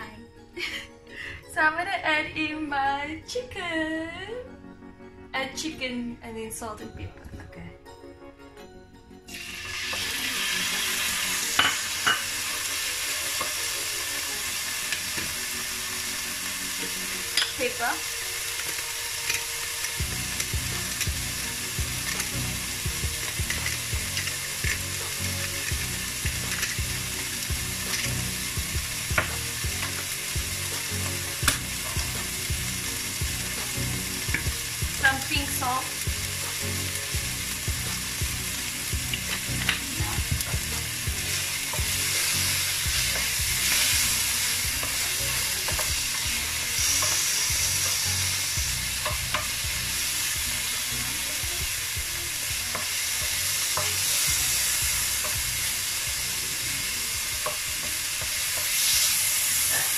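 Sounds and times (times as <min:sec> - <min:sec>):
chicken sizzling in hot oil: 0:09.3 - 0:59.9.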